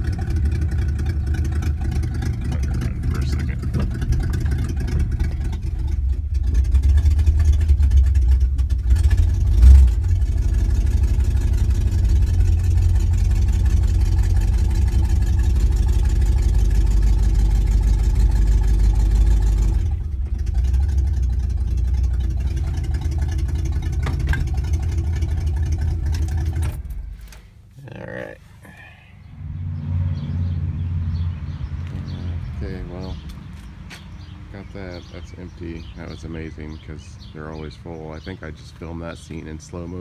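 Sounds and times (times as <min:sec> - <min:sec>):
car engine rumbling: 0:00.0 - 0:40.0.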